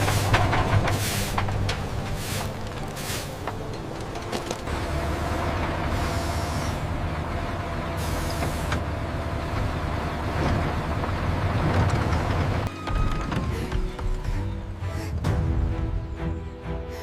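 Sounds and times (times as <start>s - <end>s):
heavy machinery rumbling: 0.0s - 16.2s.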